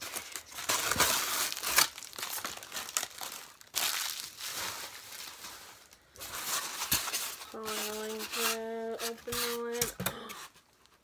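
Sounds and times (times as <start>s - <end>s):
packaging crinkling and tearing: 0.0s - 9.6s.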